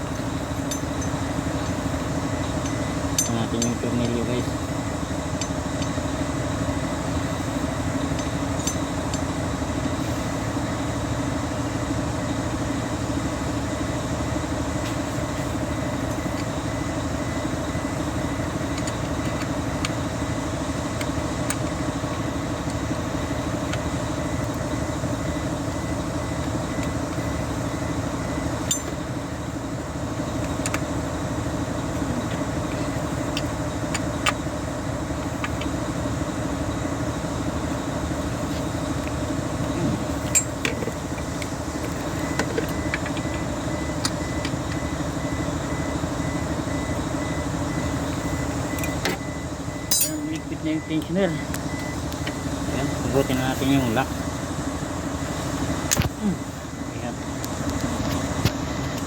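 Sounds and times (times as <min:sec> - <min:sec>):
steady mechanical drone: 0:00.0 - 0:59.0.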